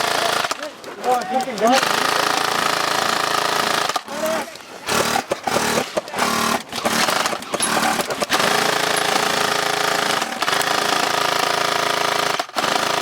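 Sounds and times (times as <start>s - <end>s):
airsoft gun firing bursts: 0.0s - 0.6s, 1.6s - 13.0s.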